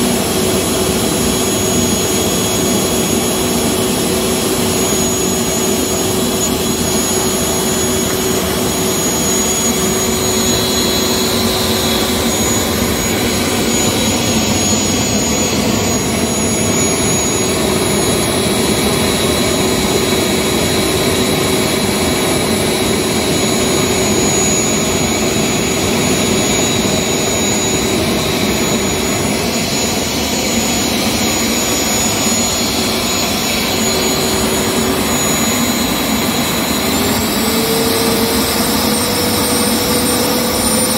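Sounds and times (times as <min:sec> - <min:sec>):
blower motor hum: 0:00.0 - 0:40.9
thin high whine: 0:00.0 - 0:40.9.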